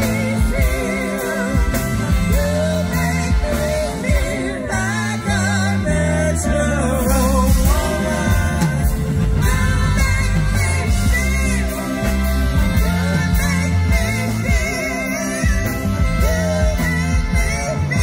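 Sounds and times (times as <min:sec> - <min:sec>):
bass line: 0:00.0 - 0:18.0
drums: 0:00.0 - 0:18.0
woman singing: 0:00.0 - 0:18.0.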